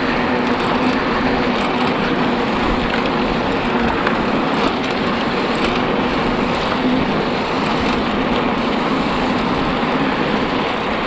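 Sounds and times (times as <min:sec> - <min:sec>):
bike tyres rolling on rough ground: 0:00.0 - 0:11.0.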